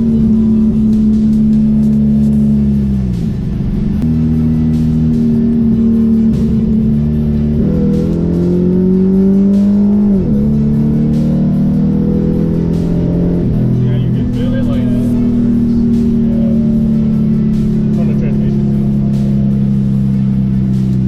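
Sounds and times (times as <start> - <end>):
background music: 0.0 - 21.0
car engine running: 0.0 - 21.0.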